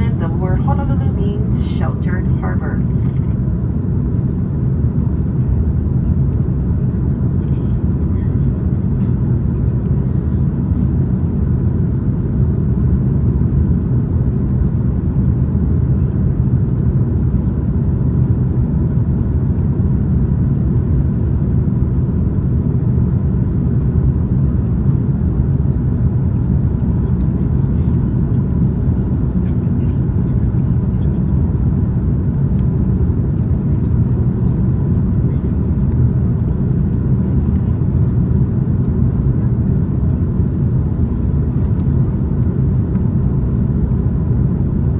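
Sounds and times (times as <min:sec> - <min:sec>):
aircraft cabin rumble: 0:00.0 - 0:44.9.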